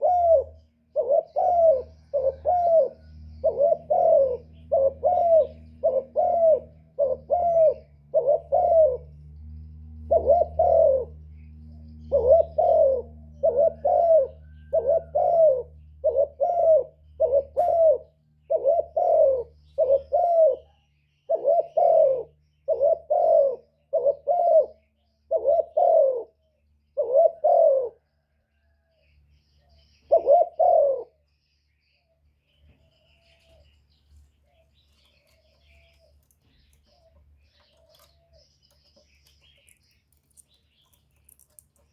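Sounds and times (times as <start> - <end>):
dove cooing: 0.0 - 31.9, 32.7 - 41.9
low steady hum: 0.0 - 41.9.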